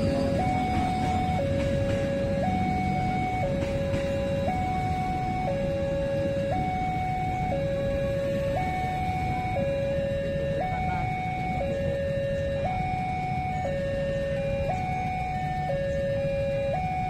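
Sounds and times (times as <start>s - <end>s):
two-tone siren: 0.0s - 17.0s.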